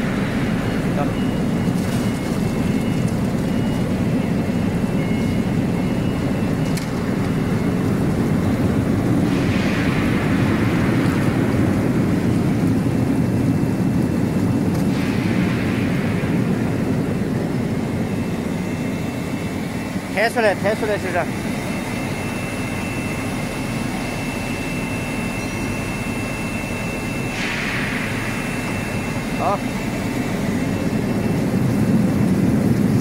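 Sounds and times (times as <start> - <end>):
air blower rumble: 0.0 - 33.0.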